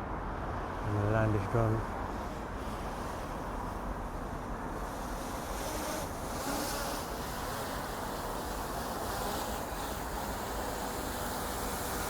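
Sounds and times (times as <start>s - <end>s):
distant road traffic: 0.0s - 12.0s.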